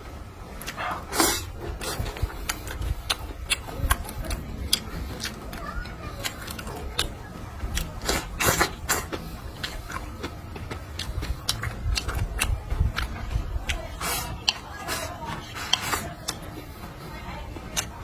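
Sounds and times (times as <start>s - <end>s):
person chewing: 0.6s - 16.6s, 17.7s - 18.0s.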